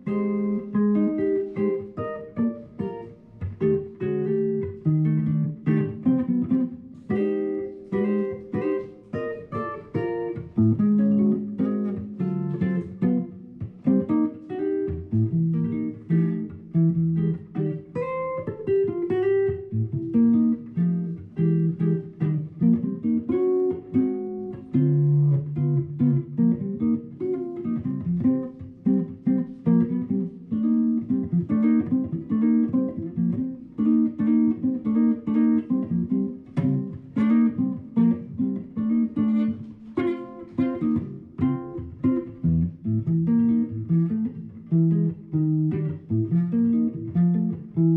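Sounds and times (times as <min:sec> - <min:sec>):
acoustic guitar playing: 0:00.0 - 0:47.9.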